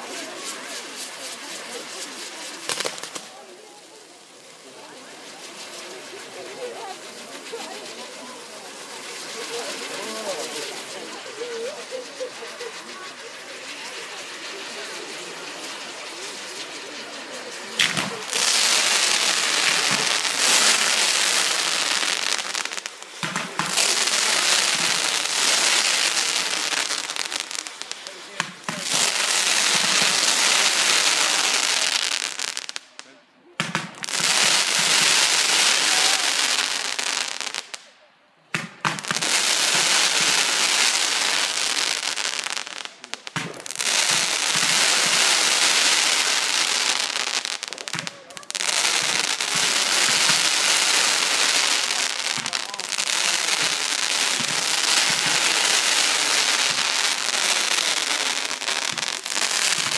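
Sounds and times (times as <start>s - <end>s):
firework cracks: 0.0s - 59.9s
fireworks hissing and crackling: 0.0s - 59.9s.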